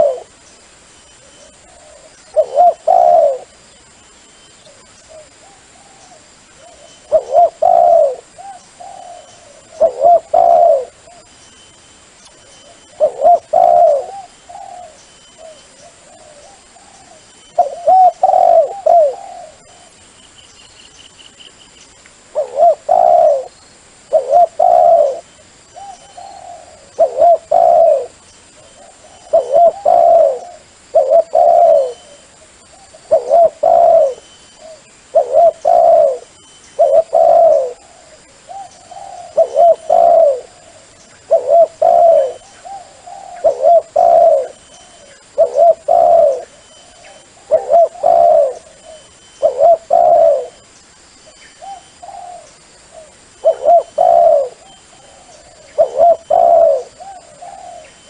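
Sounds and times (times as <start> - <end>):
dove cooing: 0.0 - 0.4, 1.2 - 3.6, 4.7 - 11.3, 12.6 - 20.0, 22.3 - 50.6, 51.6 - 58.0.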